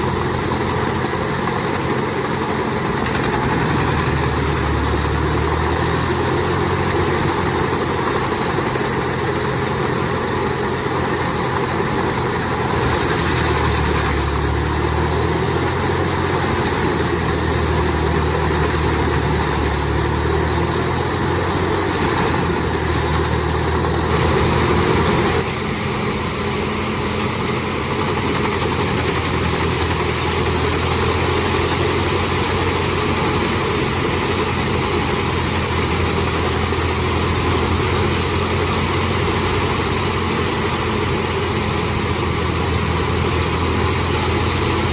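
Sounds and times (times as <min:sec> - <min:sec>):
wood chipper engine running: 0:00.0 - 0:44.9.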